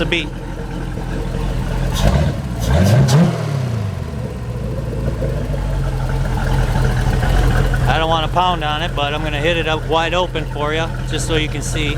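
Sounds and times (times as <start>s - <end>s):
boat engine revving and idling: 0.0s - 11.9s.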